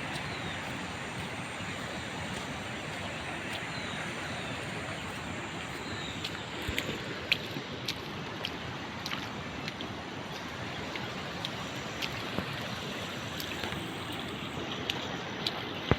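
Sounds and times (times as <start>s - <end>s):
river water rushing: 0.0s - 15.9s.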